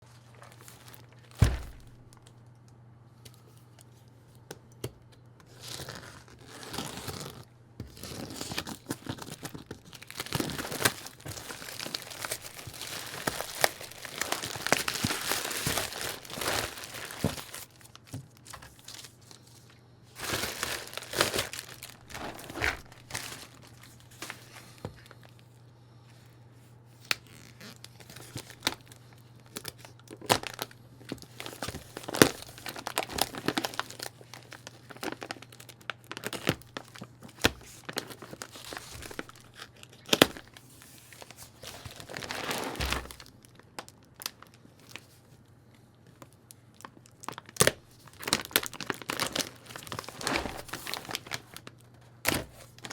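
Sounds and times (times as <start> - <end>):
plastic crinkling and tearing: 0.1 - 2.5, 5.4 - 25.5, 27.0 - 45.2, 46.2 - 52.9.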